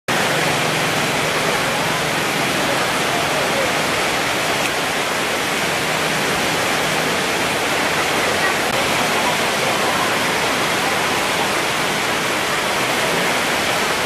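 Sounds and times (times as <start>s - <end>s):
market hubbub with voices: 0.1s - 14.0s.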